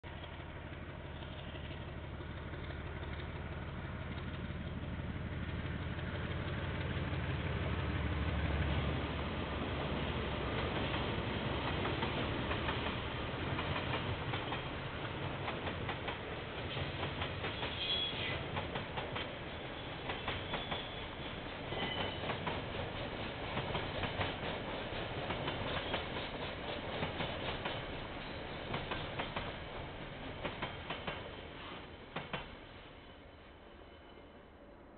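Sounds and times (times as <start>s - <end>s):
wheels clickety-clack on rail joints: 0.1s - 32.8s
diesel locomotive engine humming: 0.1s - 34.9s
freight train rumbling past: 0.1s - 34.9s.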